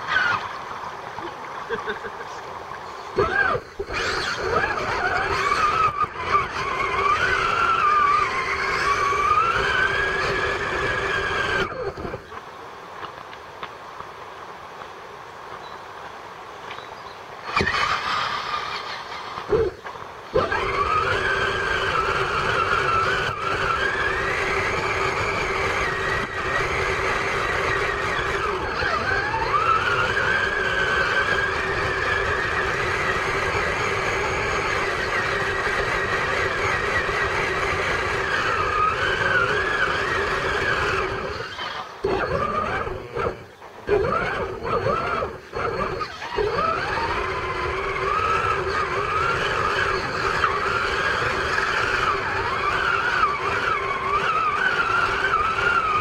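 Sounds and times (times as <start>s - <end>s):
toy truck electric motor whining: 0.0s - 0.5s, 3.2s - 12.3s, 17.4s - 56.0s.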